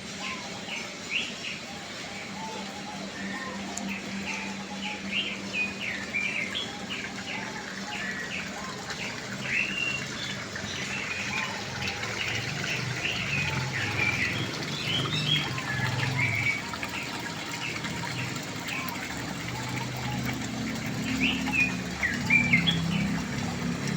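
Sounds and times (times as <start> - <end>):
small birds chirping: 0.2 - 23.9.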